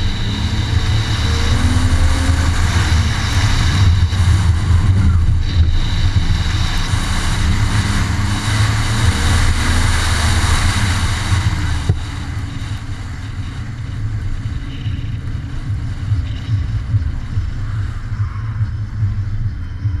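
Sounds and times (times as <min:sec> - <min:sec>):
car engine under throttle: 0:00.0 - 0:20.0.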